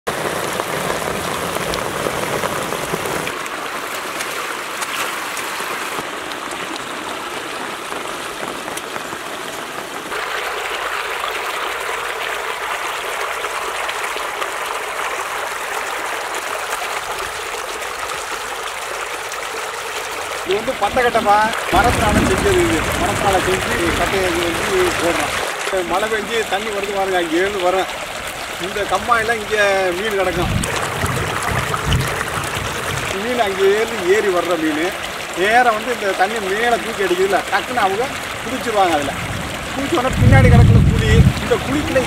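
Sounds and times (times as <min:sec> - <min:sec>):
water rushing and splashing: 0:00.1 - 0:42.0.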